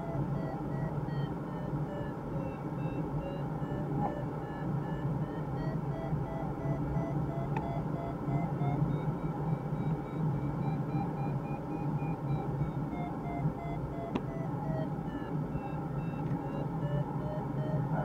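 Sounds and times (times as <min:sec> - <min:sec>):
variometer beeping: 0:00.0 - 0:18.0.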